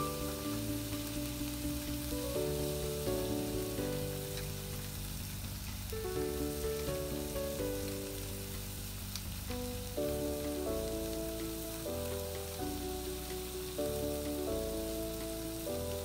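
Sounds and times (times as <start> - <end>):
slow background music: 0.0 - 16.0
steaks sizzling in a frying pan: 0.0 - 16.0.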